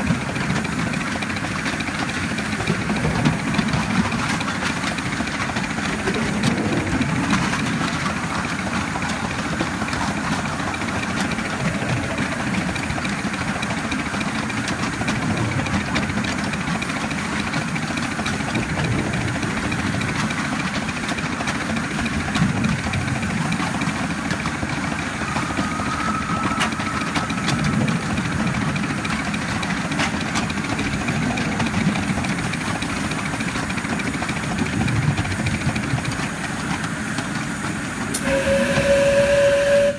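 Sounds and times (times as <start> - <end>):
model steam locomotive rumbling: 0.0 - 39.9.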